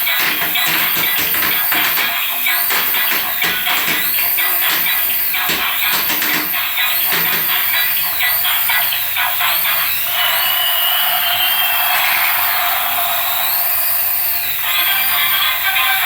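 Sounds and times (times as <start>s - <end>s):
toy whirring hiss: 0.0s - 16.0s.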